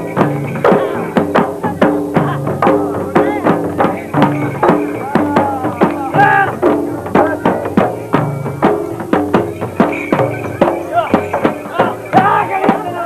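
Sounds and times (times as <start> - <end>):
drum music with melody: 0.0 - 13.0.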